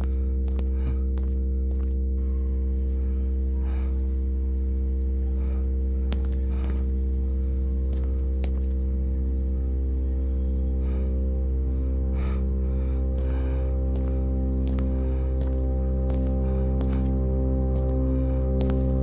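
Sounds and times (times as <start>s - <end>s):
low ambient drone: 0.0s - 19.0s.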